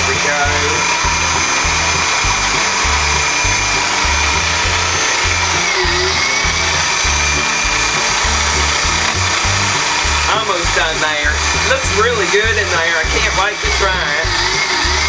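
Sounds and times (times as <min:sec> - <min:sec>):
background music with bass line: 0:00.0 - 0:15.0
food processor motor whining: 0:00.0 - 0:15.0.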